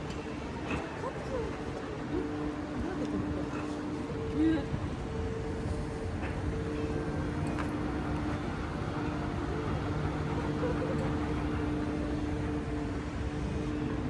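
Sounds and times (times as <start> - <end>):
city background noise: 0.0 - 14.0
low two-toned hum: 0.1 - 14.0.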